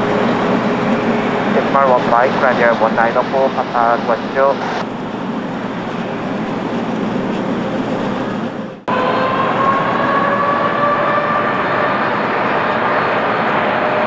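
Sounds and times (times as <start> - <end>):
jet engine whine rising: 0.0 - 14.0
jet engines roaring: 0.0 - 14.0.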